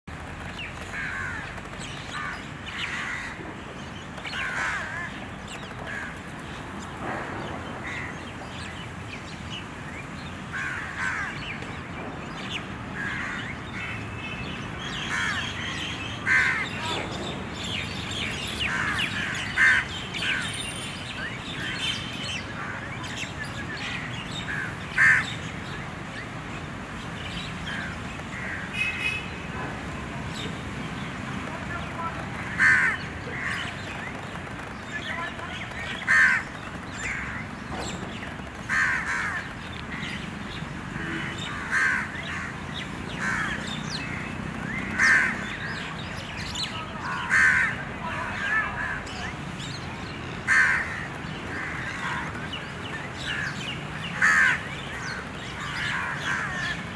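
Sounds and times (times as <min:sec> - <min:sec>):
birds chirping and calling: 0:00.0 - 0:56.9
outdoor ambience: 0:00.0 - 0:56.9.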